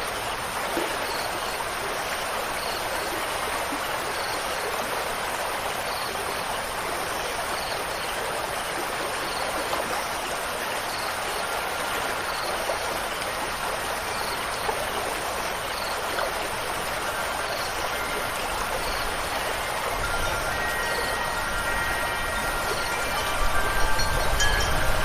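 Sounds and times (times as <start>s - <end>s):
running water rushing: 0.0s - 25.0s
faint wind chimes: 0.8s - 25.0s.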